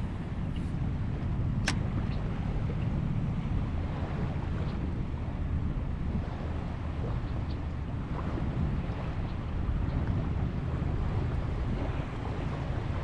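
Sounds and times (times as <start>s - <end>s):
waves: 0.0s - 13.0s
wind rumble on microphone: 0.0s - 13.0s.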